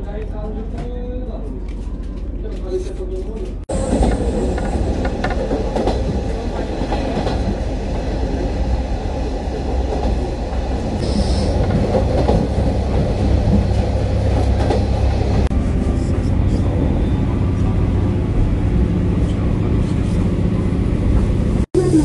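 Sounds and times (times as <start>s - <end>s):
railcar rumbling on rails: 0.0s - 22.0s.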